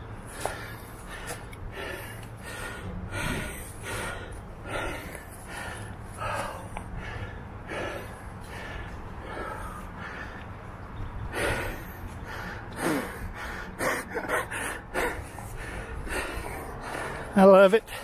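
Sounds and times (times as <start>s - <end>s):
man breathing hard: 0.0s - 18.0s.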